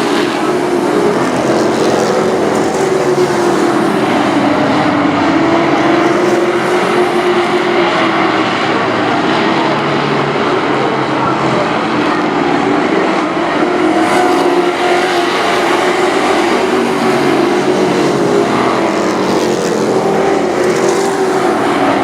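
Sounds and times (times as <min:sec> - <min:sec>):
race truck engines droning: 0:00.0 - 0:22.0.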